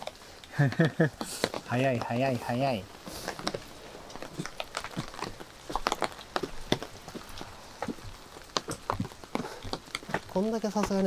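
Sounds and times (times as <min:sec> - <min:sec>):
rain falling: 0:00.0 - 0:11.0
footsteps: 0:01.2 - 0:11.0.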